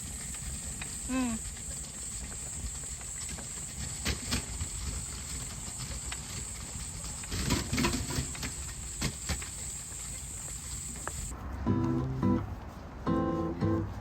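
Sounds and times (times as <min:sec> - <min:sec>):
steady high-pitched hiss: 0:00.0 - 0:11.4.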